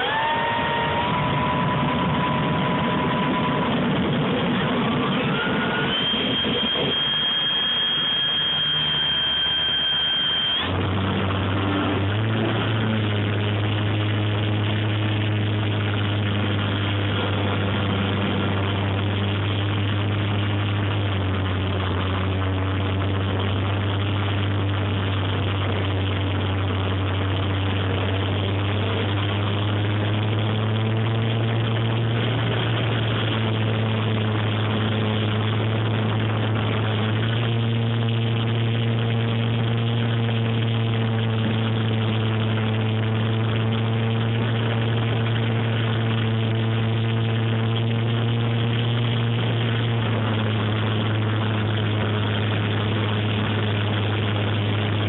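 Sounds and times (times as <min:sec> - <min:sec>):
electric motor whine: 0:00.0 - 0:55.0
propeller drone: 0:00.0 - 0:55.0.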